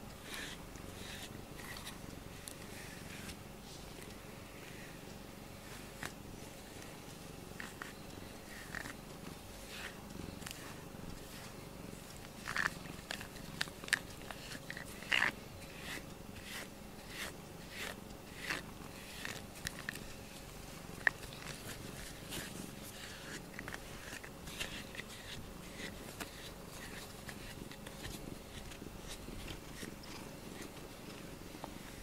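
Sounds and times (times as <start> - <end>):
cat purring: 4.3 - 32.0.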